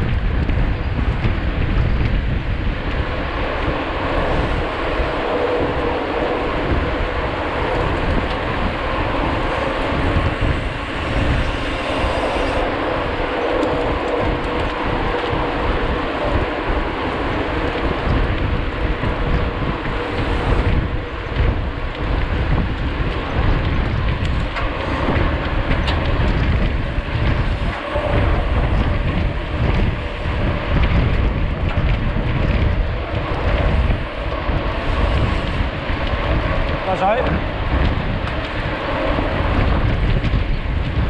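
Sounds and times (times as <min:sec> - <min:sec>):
bike rolling on trail rumble: 0:00.0 - 0:41.0
wind buffeting microphone: 0:00.0 - 0:41.0.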